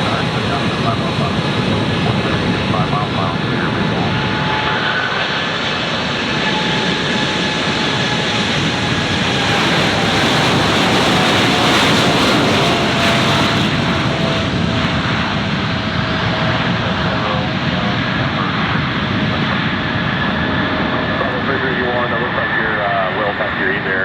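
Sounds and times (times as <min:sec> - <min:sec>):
airliner engines roaring past: 0:00.0 - 0:24.0.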